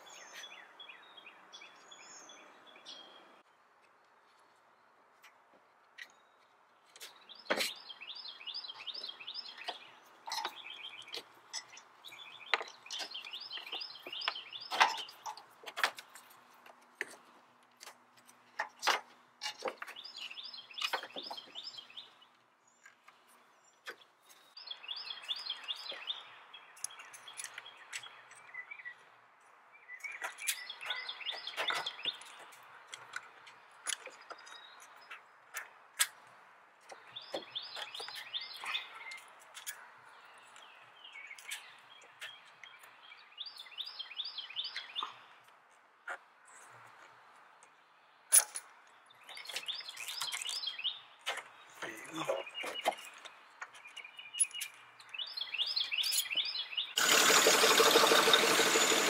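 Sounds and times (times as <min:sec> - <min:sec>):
bird chirping: 0:00.0 - 0:03.6, 0:06.0 - 0:16.4, 0:19.4 - 0:35.7, 0:36.8 - 0:45.5, 0:47.7 - 0:57.0.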